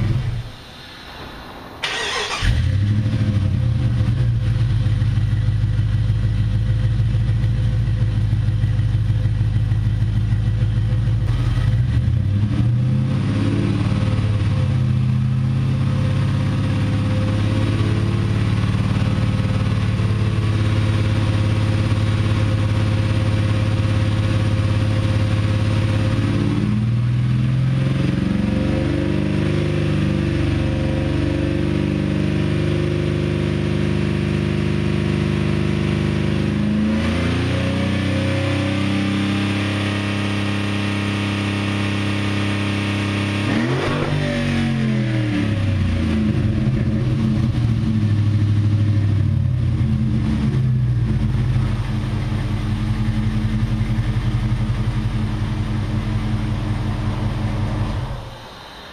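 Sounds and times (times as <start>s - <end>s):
engine exhaust revving: 1.8s - 58.9s.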